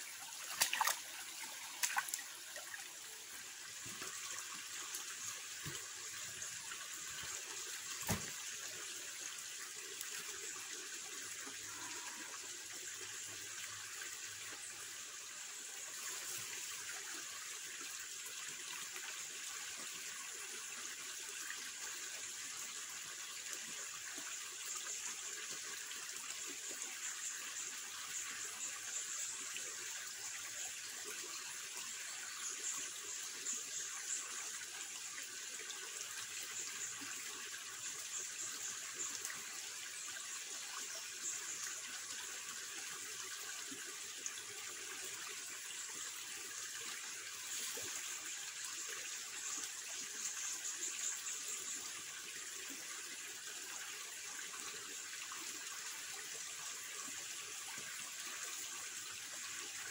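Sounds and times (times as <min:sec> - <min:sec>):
forest high-pitched hiss: 0:00.0 - 0:59.9.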